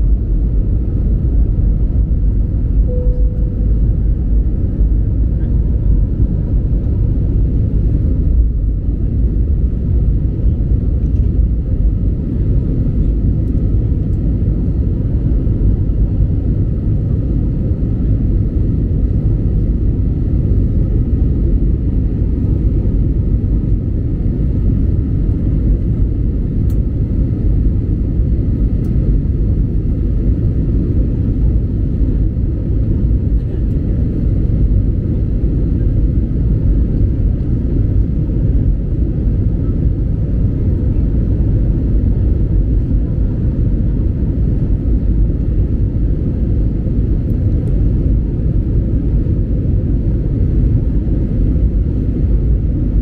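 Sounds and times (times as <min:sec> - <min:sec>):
faint steady hum: 0:00.0 - 0:53.0
steady low rumble: 0:00.0 - 0:53.0.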